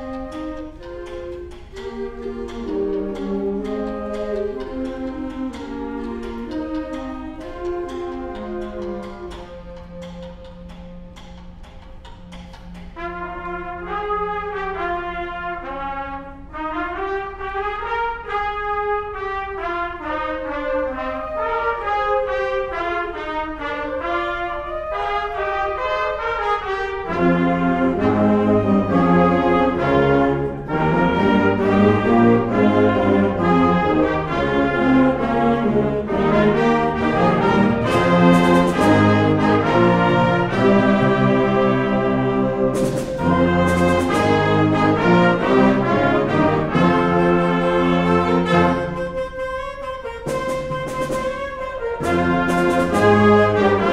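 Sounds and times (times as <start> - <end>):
symphonic band playing: 0.0 - 53.9.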